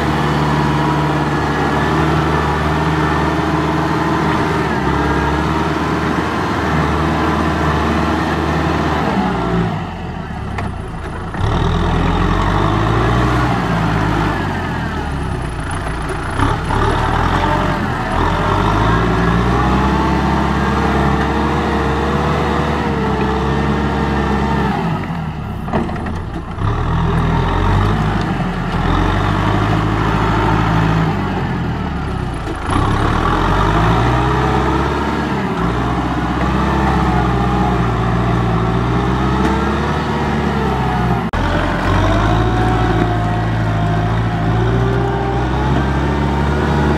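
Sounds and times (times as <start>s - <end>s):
tractor diesel engine revving: 0.0s - 46.9s.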